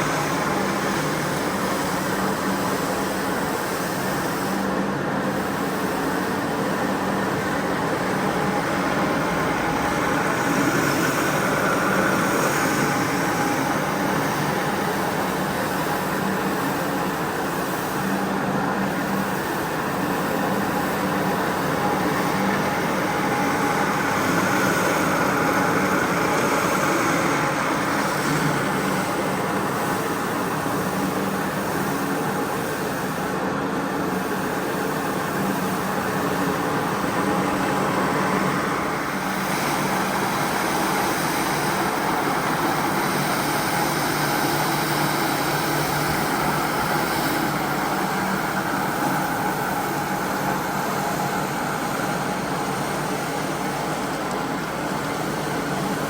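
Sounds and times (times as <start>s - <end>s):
carpet cleaning machine hum: 0.0s - 56.0s.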